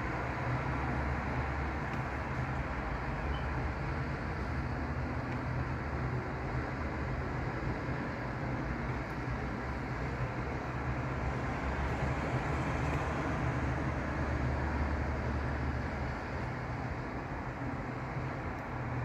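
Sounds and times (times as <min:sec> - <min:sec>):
low rumble of lorries: 0:00.0 - 0:19.0
road traffic on wet tarmac: 0:00.0 - 0:19.0.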